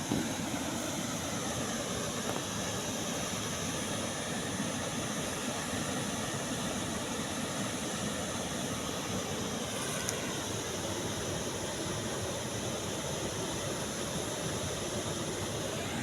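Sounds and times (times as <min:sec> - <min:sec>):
waterfall and river roaring: 0:00.0 - 0:16.0.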